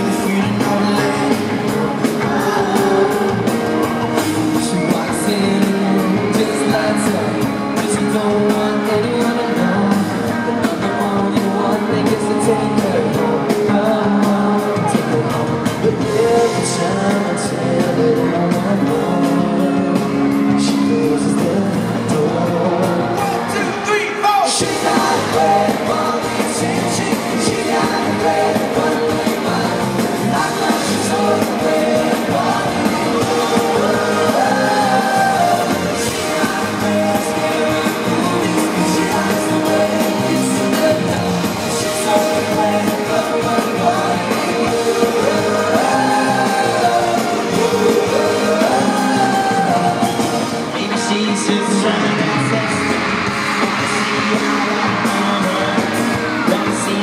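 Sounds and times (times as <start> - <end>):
band playing pop-rock song live: 0.0 - 57.0
fans screaming: 0.0 - 57.0.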